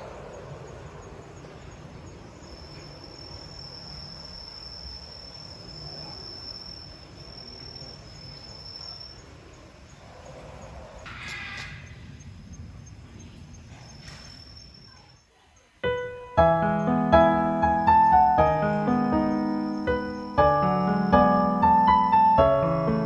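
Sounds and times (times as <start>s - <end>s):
insect trilling: 0.0s - 23.0s.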